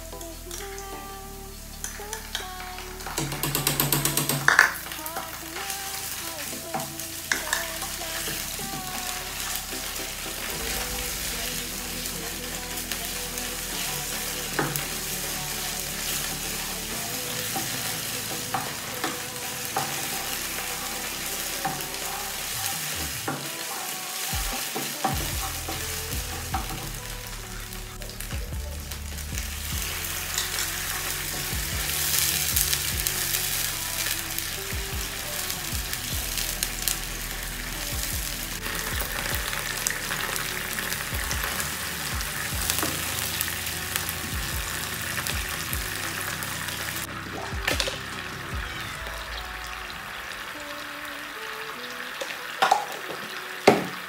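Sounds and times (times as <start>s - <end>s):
onions sizzling in hot oil: 0.1s - 54.0s.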